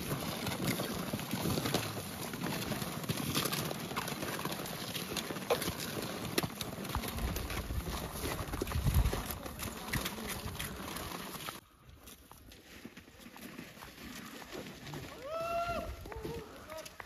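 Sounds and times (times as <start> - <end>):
footsteps crunching on snow: 0.0 - 15.1.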